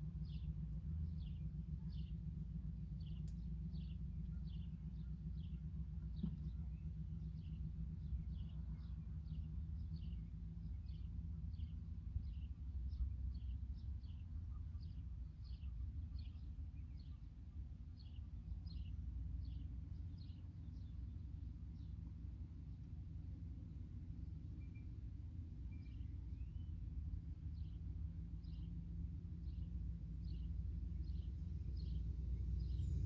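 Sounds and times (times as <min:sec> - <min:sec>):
low outdoor rumble: 0:00.0 - 0:33.0
small bird chirping: 0:00.2 - 0:22.8, 0:24.4 - 0:33.0.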